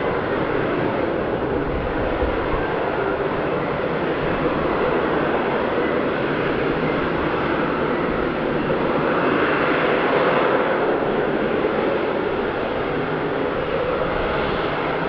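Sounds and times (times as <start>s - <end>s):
loud steady jet noise: 0.0s - 15.0s.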